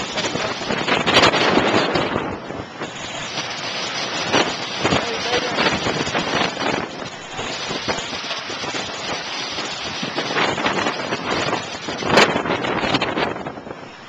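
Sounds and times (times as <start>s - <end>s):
water splashing against boat: 0.0s - 14.0s
wind on microphone: 0.0s - 14.0s.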